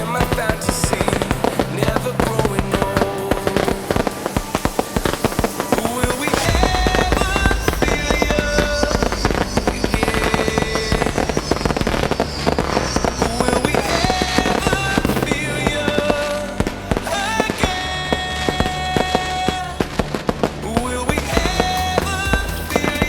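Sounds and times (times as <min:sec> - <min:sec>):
fireworks banging and crackling: 0:00.0 - 0:23.0
music playing: 0:00.0 - 0:23.0.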